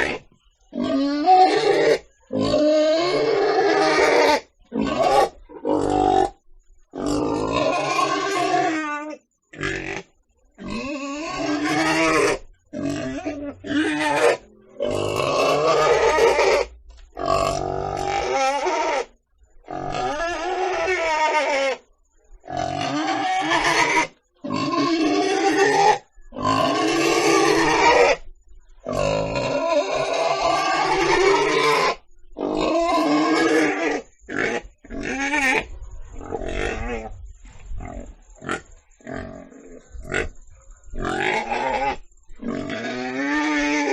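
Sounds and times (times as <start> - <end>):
pig grunting: 0.0 - 8.9, 9.5 - 21.8, 22.4 - 28.2, 28.8 - 43.9.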